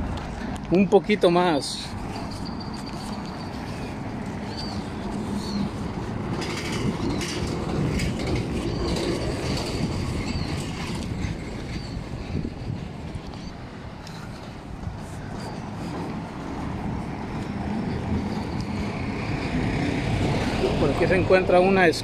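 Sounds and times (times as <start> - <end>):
road traffic rumble: 0.0 - 22.0
vehicle passing: 0.0 - 22.0.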